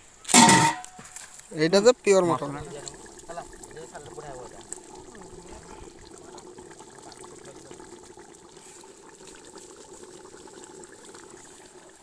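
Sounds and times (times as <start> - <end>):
curry bubbling in metal pot: 0.3 - 12.0.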